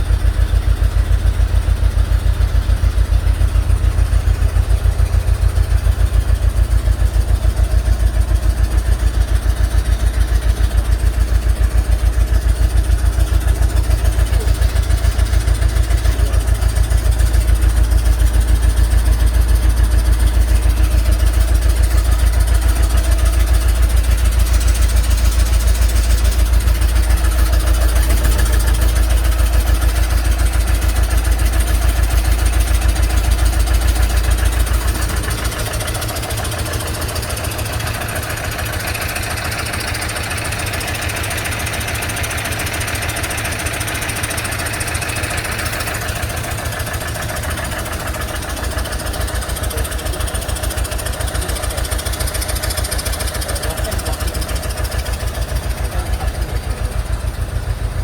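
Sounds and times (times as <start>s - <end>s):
large engine idling: 0.0s - 58.0s.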